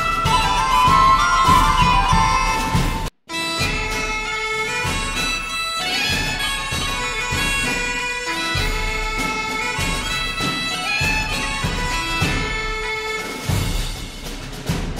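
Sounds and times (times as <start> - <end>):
bagpipes playing a tune: 0.0 - 14.0.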